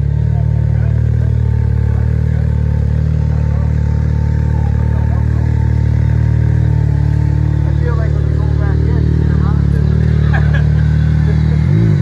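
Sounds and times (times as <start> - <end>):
vehicle engine running steadily: 0.0 - 12.0.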